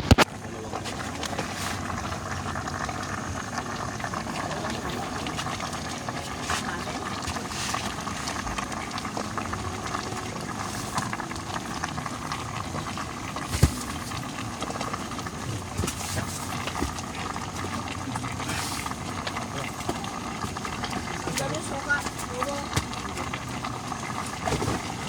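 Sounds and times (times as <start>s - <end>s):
pot boiling and bubbling: 0.0s - 25.0s.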